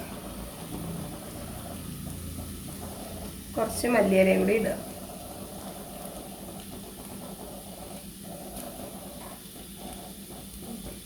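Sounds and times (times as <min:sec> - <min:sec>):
okra sizzling in a pan: 0:00.0 - 0:11.0.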